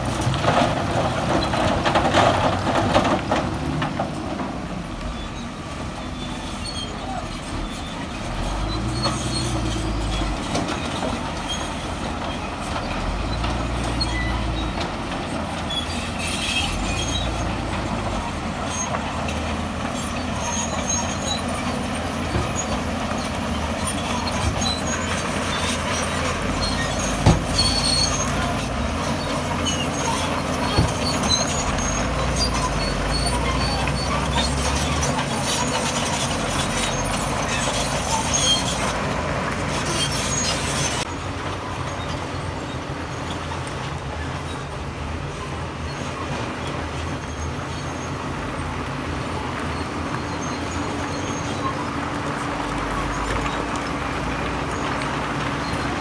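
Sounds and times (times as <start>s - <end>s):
bulldozer diesel engine under load: 0.0s - 56.0s
steel tracks squealing and clanking: 0.0s - 56.0s.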